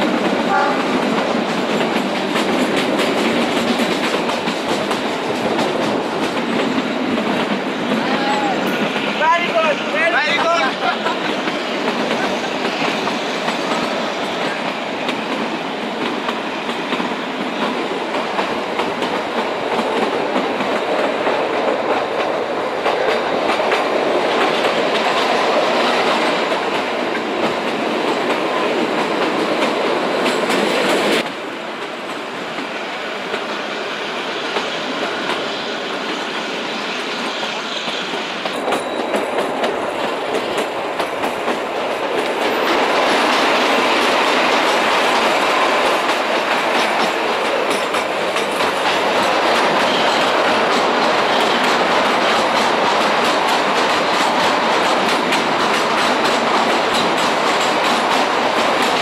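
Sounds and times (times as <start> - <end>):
rumble of train coaches: 0.0 - 59.0
train wheels clattering on rails: 0.0 - 59.0.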